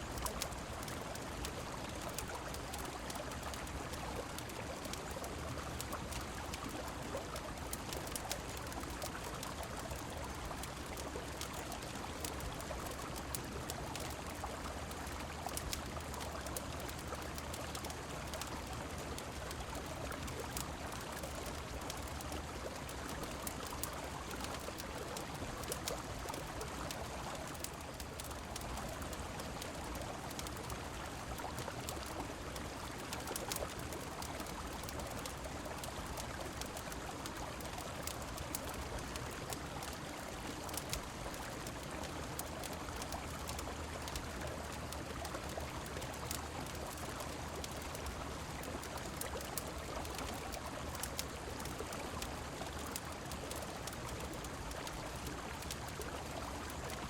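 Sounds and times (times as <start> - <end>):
rain falling: 0.0 - 57.0
wood fire crackling: 0.0 - 57.0.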